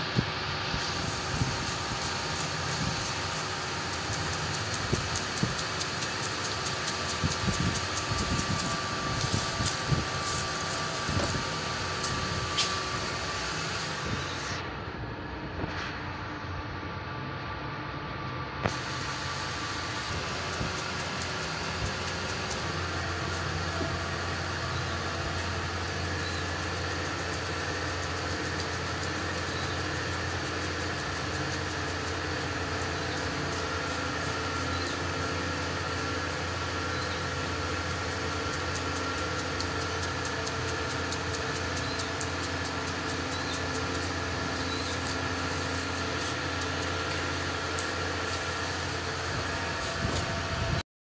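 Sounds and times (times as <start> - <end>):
low mechanical hum: 0.0 - 50.8.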